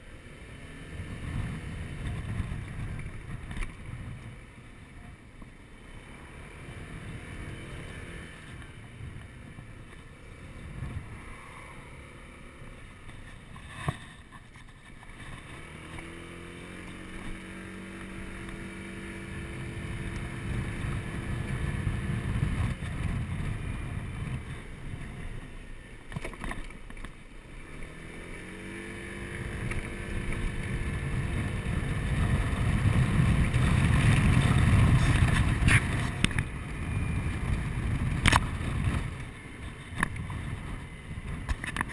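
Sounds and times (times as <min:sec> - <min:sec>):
wind on microphone: 0:00.9 - 0:05.1, 0:06.7 - 0:12.0, 0:12.6 - 0:25.7, 0:28.5 - 0:41.9
scooter engine pulling away: 0:05.7 - 0:13.6, 0:14.4 - 0:41.9.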